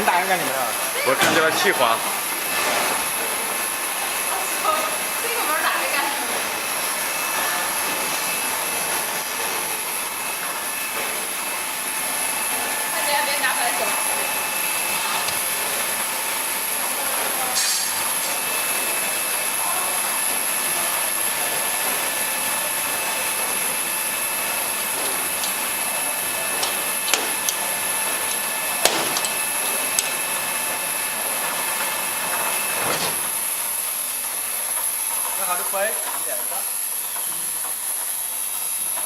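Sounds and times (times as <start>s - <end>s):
washing machine hiss and whirr: 0.0s - 39.0s.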